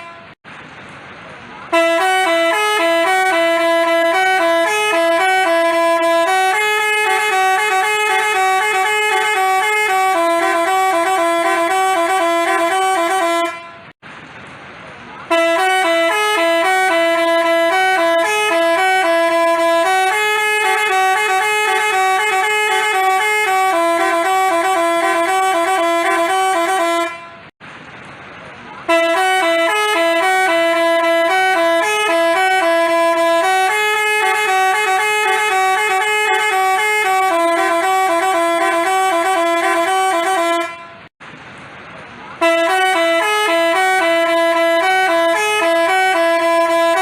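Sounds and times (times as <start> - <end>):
multi-tone bus horn melody: 0.0 - 0.4, 1.6 - 14.0, 15.2 - 27.6, 28.8 - 41.2, 42.4 - 47.0.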